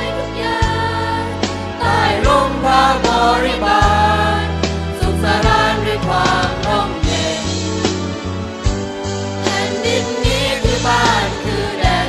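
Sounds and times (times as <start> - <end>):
choir singing in harmony: 0.0 - 12.0
instrumental accompaniment: 0.0 - 12.0.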